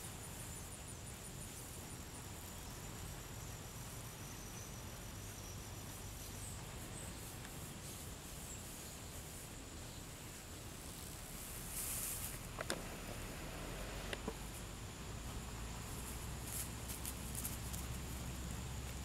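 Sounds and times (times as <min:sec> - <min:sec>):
high insect whine: 0:00.0 - 0:19.0
insect chirps: 0:00.0 - 0:19.0
steady hiss and low rumble: 0:00.0 - 0:19.0.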